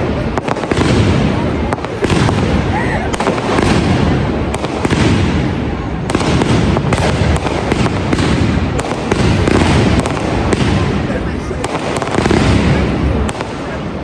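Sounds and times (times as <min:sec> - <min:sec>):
fireworks cracks and pops: 0:00.0 - 0:14.0
fireworks rushing noise: 0:00.0 - 0:14.0.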